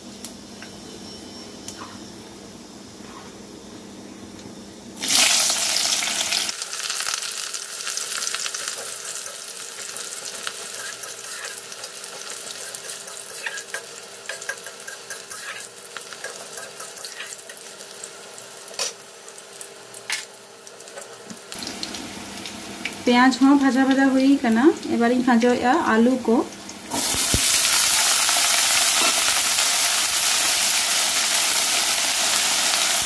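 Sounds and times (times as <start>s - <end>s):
onion frying sizzle: 5.0s - 33.0s.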